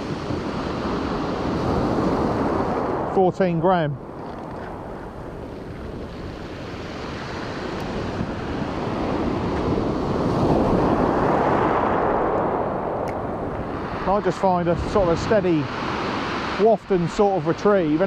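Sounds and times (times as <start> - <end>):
waves surging onto beach: 0.0 - 18.0
wind on microphone: 0.0 - 18.0.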